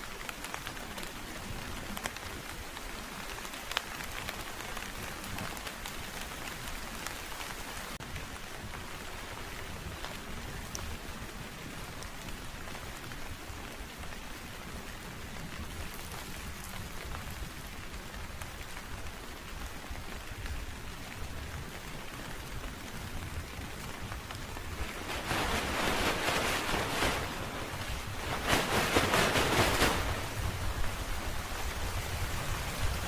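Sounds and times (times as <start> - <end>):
rain falling: 0.0 - 33.0
raindrops ticking on surfaces: 0.0 - 33.0.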